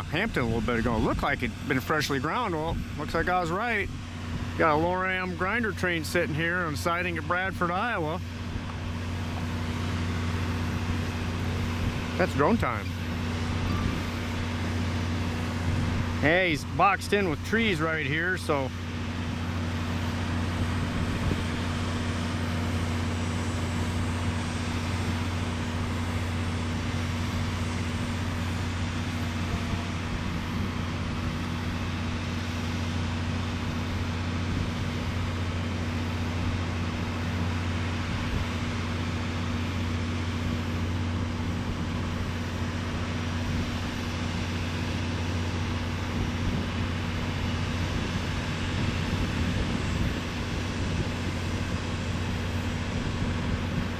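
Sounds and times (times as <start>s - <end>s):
motor humming: 0.0s - 53.9s.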